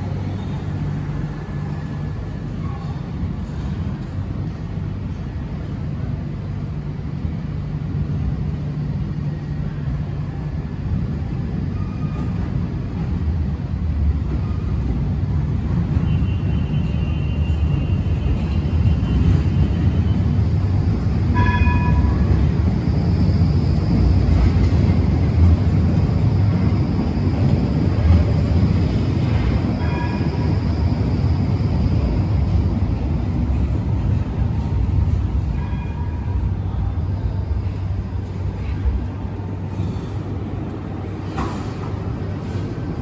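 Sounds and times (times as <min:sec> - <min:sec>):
tram wheels rumbling on rails: 0:00.0 - 0:43.0.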